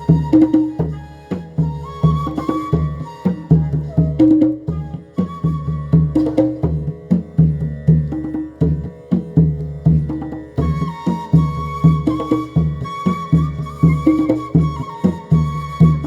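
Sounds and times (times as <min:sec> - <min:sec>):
tabla playing: 0:00.0 - 0:16.0.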